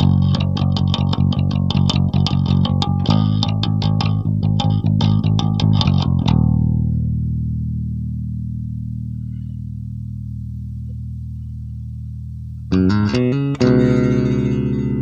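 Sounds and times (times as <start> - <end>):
electric bass plucked notes: 0.0 - 15.0.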